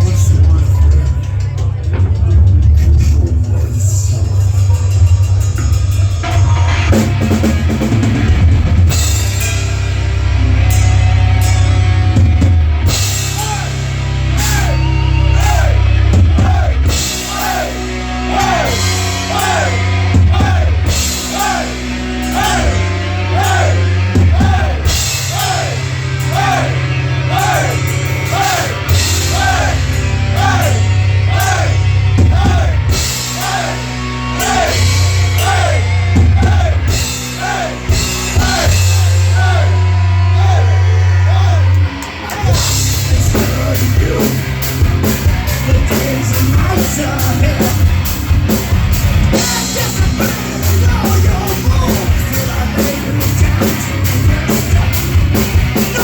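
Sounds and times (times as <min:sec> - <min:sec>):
heavy rock band playing: 0:00.0 - 0:56.0.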